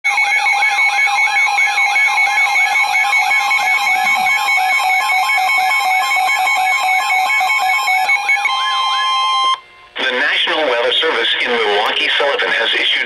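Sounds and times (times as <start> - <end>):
weather radio alert alarm: 0.1 - 12.9.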